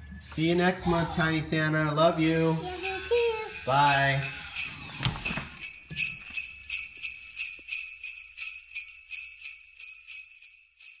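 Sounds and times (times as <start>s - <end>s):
jingle bells jingling: 2.2s - 11.0s.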